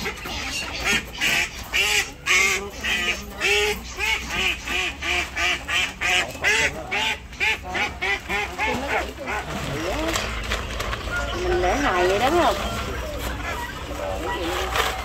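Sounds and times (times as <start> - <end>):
duck quacking: 0.0 - 10.2, 11.1 - 14.6.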